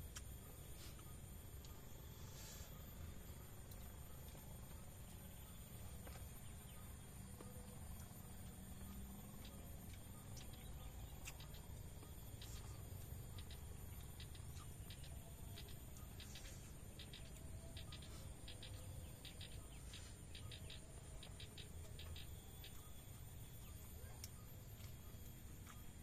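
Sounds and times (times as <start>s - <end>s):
faint bird chirps: 0.0s - 26.0s
low steady rumble: 0.0s - 26.0s.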